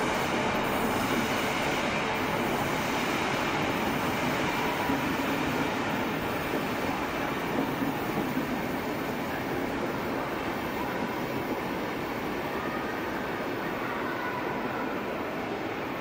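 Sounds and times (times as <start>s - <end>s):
train wheels rumbling on rails: 0.0s - 13.6s.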